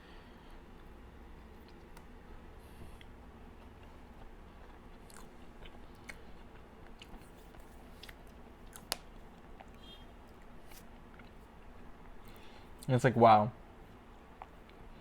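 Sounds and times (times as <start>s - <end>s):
chewing and mouth sounds: 1.4s - 12.9s, 14.2s - 14.9s.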